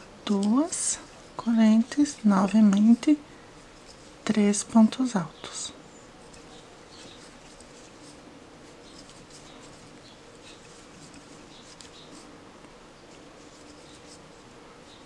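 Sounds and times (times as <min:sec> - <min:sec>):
low steady hum: 0:00.0 - 0:15.0
soft string rustle: 0:00.0 - 0:15.0.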